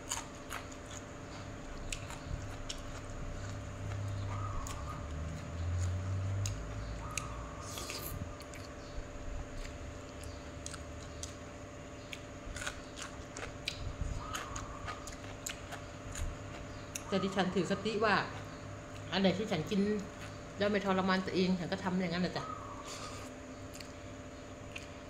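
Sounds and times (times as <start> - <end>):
chewing and crunching: 0.0 - 21.2, 22.8 - 25.0
steady low hum: 0.0 - 25.0.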